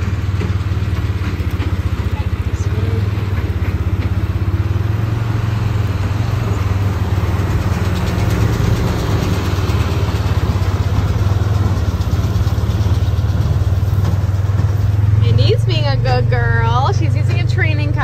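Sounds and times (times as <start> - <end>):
baler machinery running: 0.0 - 18.0
tractor engine running: 0.0 - 18.0.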